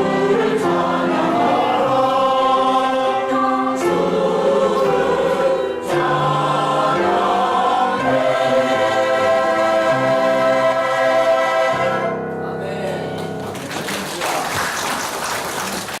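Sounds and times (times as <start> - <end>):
church choir singing: 0.0 - 13.4.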